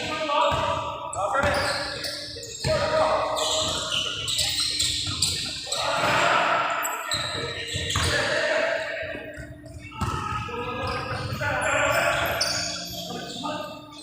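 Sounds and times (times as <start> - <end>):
indistinct voices: 0.0 - 14.0.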